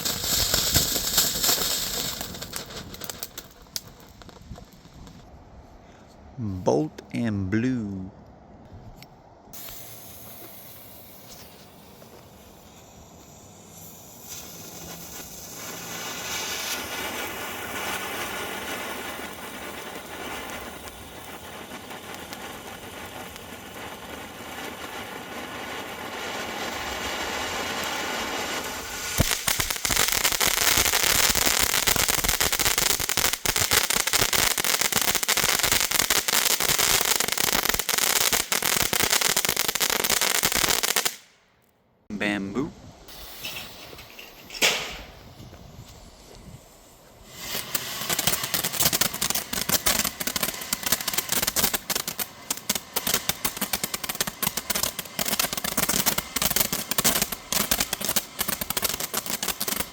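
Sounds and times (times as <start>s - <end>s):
firework fountain hissing: 0.0s - 5.2s, 9.6s - 41.4s, 43.0s - 59.9s
firework crackling: 0.0s - 5.3s, 9.6s - 41.5s, 43.1s - 59.9s.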